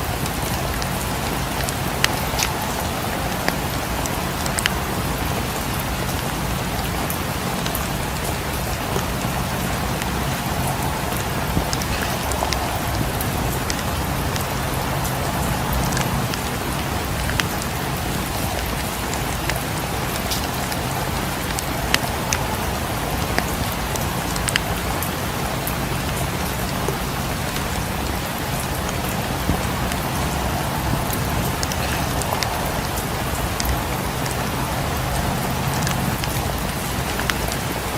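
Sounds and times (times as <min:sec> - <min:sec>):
fireplace crackling: 0:00.0 - 0:37.9
rain falling on a roof: 0:00.0 - 0:37.9.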